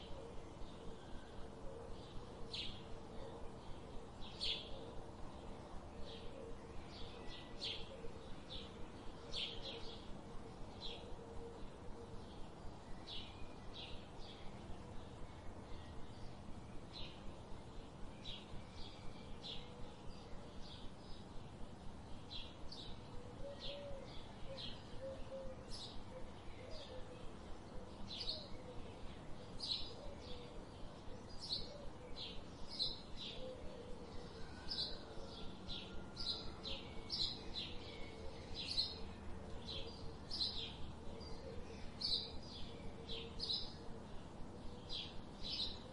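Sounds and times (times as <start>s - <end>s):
outdoor background hiss: 0.0s - 45.9s
small birds chirping: 1.9s - 45.9s.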